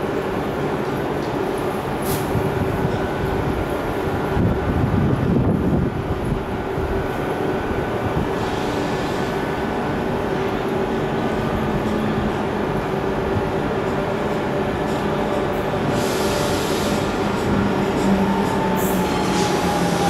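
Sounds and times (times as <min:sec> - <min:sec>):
electric train rumble and hum: 0:00.0 - 0:20.0.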